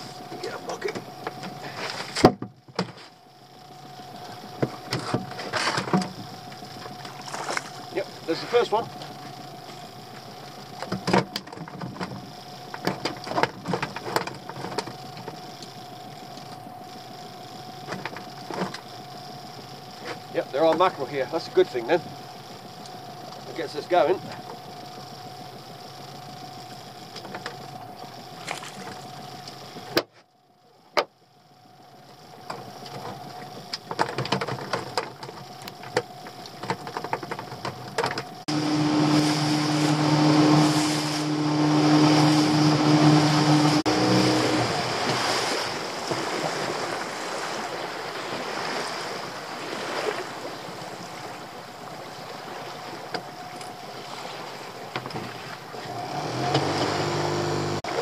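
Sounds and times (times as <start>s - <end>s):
water washing along hull: 0.0s - 30.0s, 32.1s - 58.0s
outboard motor hum: 0.0s - 58.0s.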